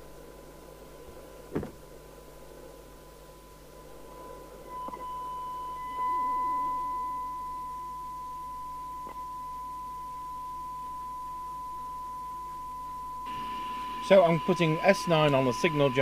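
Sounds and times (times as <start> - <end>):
steady test tone from radio speaker: 0.0 - 16.0.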